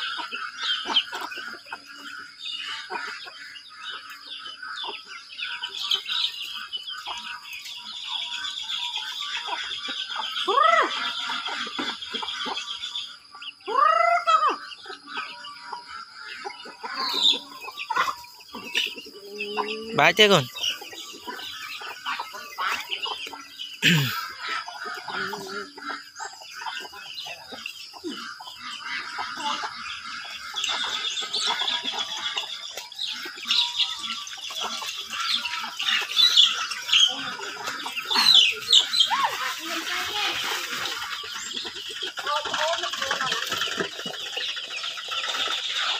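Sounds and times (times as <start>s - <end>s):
chicken drawn-out call: 0.0s - 45.9s
chickens clucking: 0.0s - 45.9s
chicks peeping: 0.0s - 45.9s.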